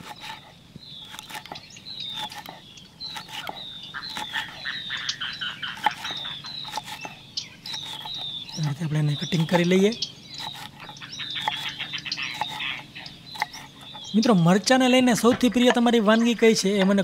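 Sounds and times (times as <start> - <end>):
high chirping calls: 0.0 - 17.0.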